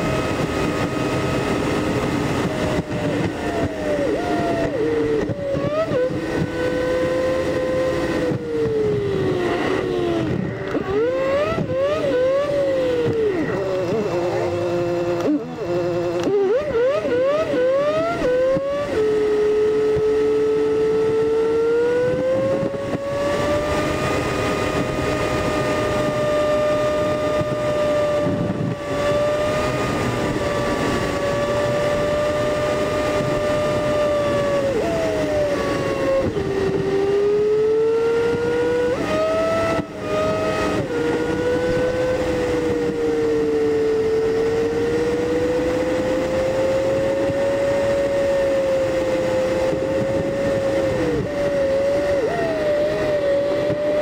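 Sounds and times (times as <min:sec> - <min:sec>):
sped-up car engine: 0:00.0 - 0:54.0.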